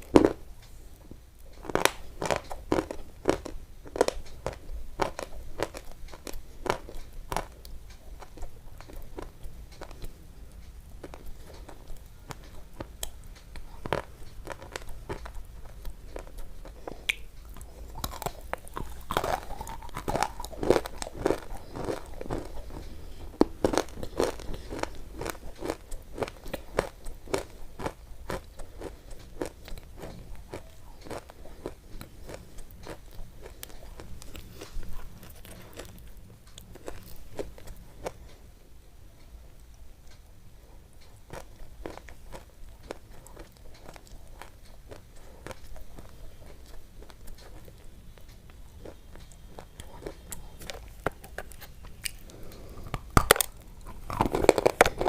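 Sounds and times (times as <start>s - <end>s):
crunching and chewing: 0.0s - 38.6s, 39.5s - 55.0s.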